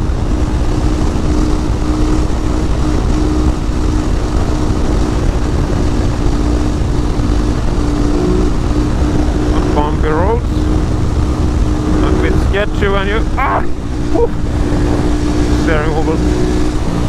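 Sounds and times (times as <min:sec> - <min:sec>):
heavy wind noise: 0:00.0 - 0:17.0
motorcycle engine cruising: 0:00.0 - 0:17.0.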